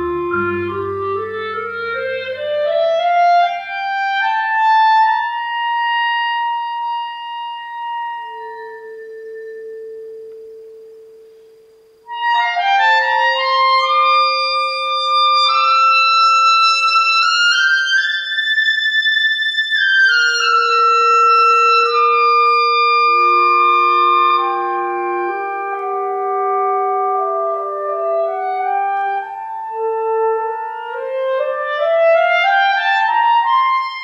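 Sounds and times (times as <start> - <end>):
clarinet-led chamber ensemble: 0.0 - 34.0.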